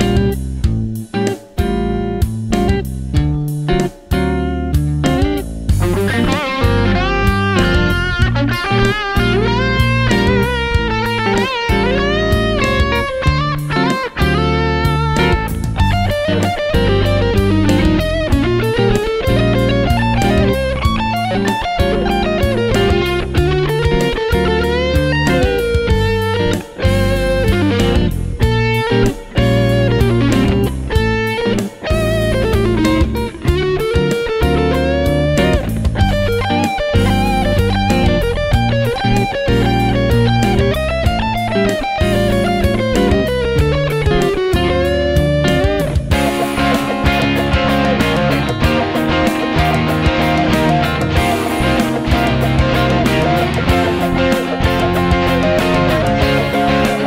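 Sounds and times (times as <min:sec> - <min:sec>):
bass line: 0:00.0 - 0:57.0
electric guitar bending notes: 0:00.0 - 0:57.0
steady drum beat: 0:00.0 - 0:57.0.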